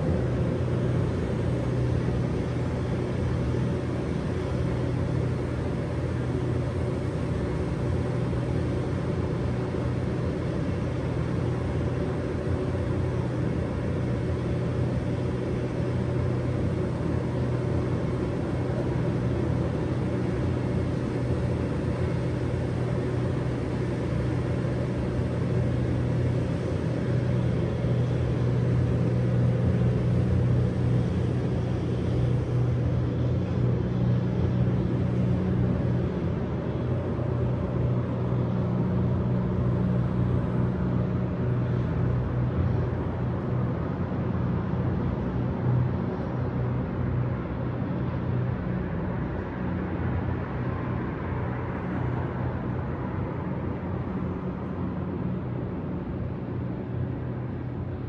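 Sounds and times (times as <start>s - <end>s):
constant droning tone: 0.0s - 58.0s.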